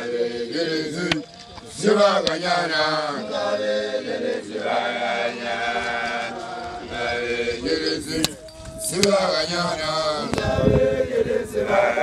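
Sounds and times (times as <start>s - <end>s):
male voices chanting in unison: 0.0s - 12.0s.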